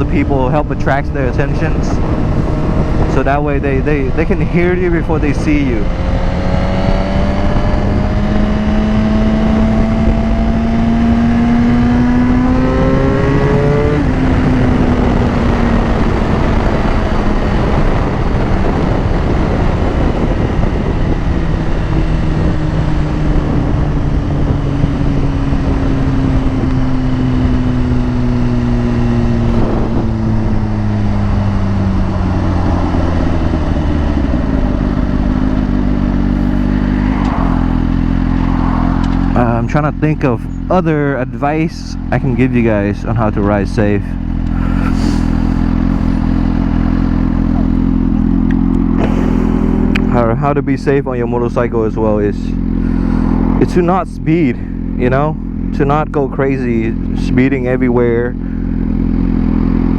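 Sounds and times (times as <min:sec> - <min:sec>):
motorcycle engine accelerating: 0:00.0 - 0:59.9
wind rumble on microphone: 0:00.0 - 0:59.9.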